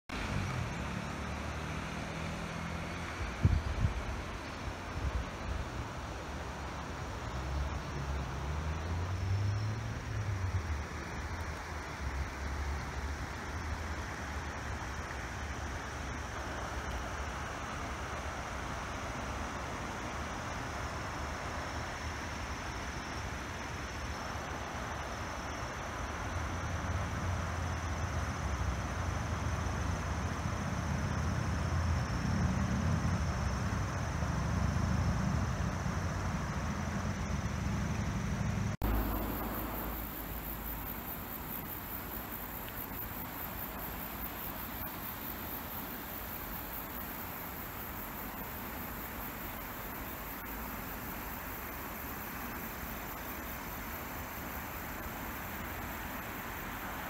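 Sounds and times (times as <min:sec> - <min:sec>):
high insect drone: 0:00.2 - 0:57.0.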